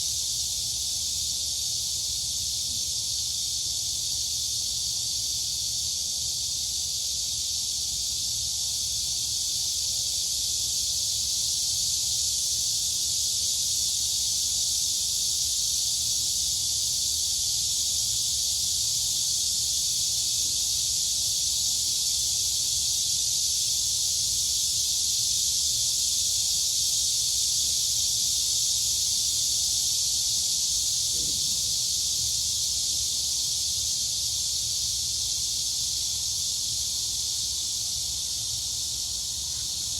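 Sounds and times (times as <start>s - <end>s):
crickets and cicadas chorus: 0.0s - 39.9s.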